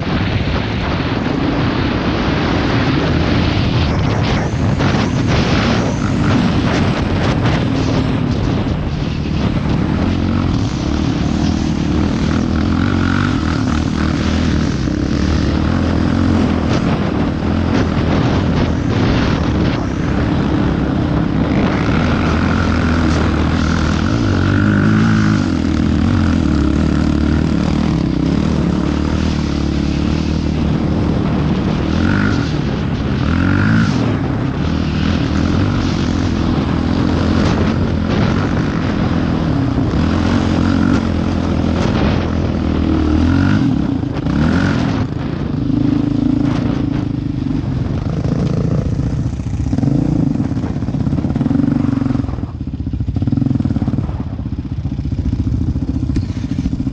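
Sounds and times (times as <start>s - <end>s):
quad engine under throttle: 0.0s - 56.9s
wind rushing over microphone: 0.0s - 56.9s.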